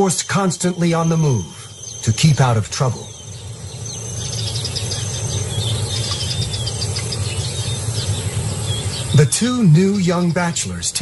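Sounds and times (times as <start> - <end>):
short bird calls: 0.0 - 10.8
insects chirping: 0.0 - 11.0
steady low hum: 0.0 - 11.0.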